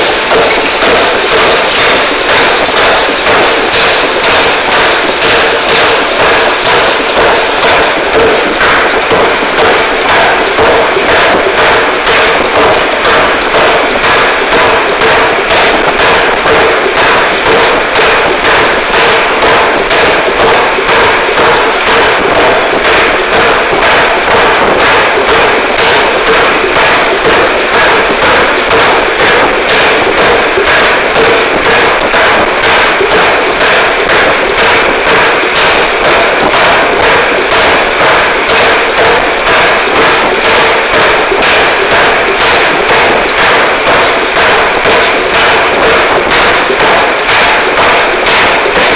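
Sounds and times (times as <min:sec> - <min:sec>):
power hammer striking hot metal: 0:00.0 - 0:48.9.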